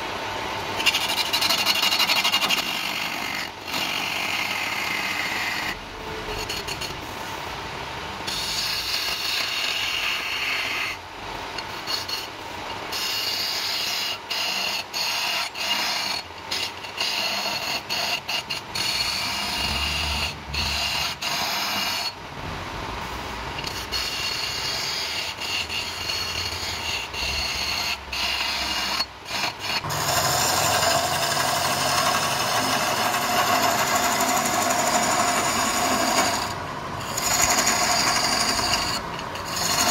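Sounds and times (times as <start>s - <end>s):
wood lathe running: 0.8s - 7.0s, 8.3s - 11.0s, 12.9s - 22.2s, 23.6s - 39.9s
turning tool scraping wood: 0.8s - 7.1s, 8.3s - 22.2s, 23.6s - 39.9s.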